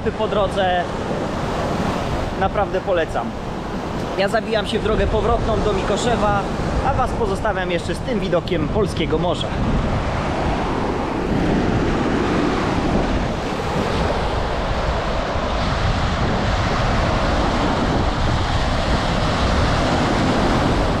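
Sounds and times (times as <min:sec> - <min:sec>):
waves washing onto beach: 0:00.0 - 0:21.0
wind rumbling on microphone: 0:00.0 - 0:21.0.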